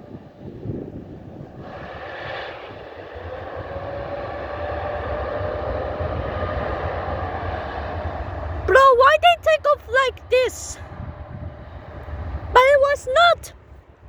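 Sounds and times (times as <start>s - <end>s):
jet airliner roaring at takeoff: 0.0s - 13.2s.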